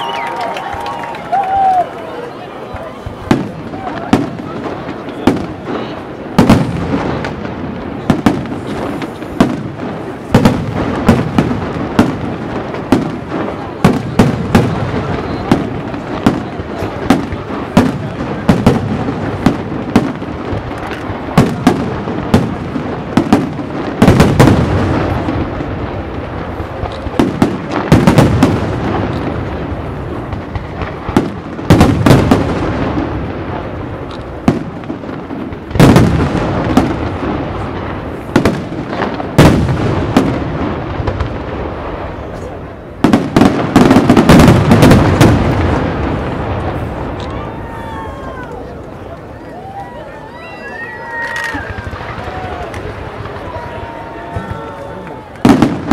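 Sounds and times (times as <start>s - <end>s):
fireworks crackling: 0.0s - 55.9s
heavy rumbling firework booms: 3.0s - 48.2s, 51.7s - 55.9s.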